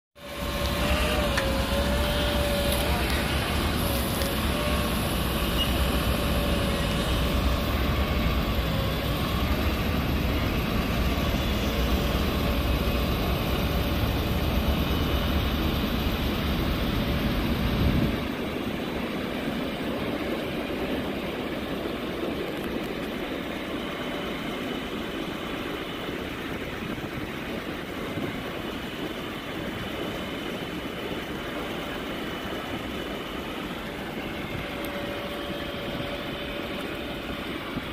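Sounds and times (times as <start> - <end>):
diesel engine running: 0.2 - 37.9
steady whine: 0.2 - 37.9.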